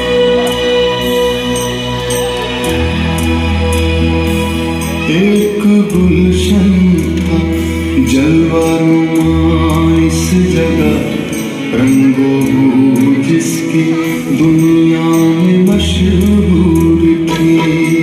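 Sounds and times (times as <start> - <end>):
held melodic notes: 0.0 - 18.0.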